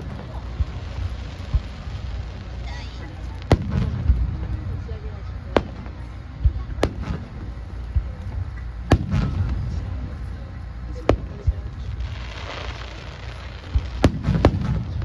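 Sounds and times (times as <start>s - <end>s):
deep rumble of booms: 0.0s - 15.0s
fireworks bursting cracks: 0.0s - 15.0s.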